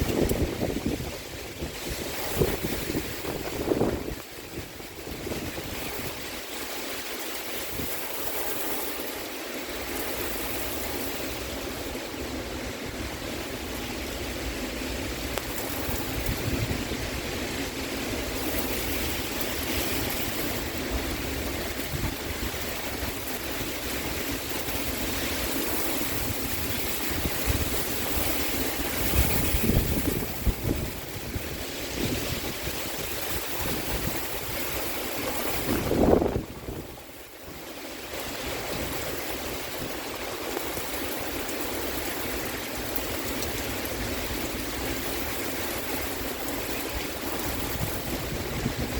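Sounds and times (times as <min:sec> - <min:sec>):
wind gusts buffeting microphone: 0:00.0 - 0:06.7, 0:11.2 - 0:37.4, 0:38.0 - 0:48.9
heavy rain pouring: 0:00.0 - 0:48.9.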